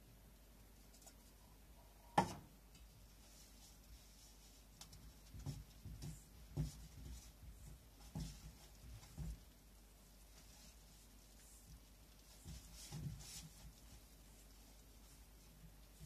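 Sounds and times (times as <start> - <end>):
hand mixing dough in steel bowl: 3.0 - 16.0.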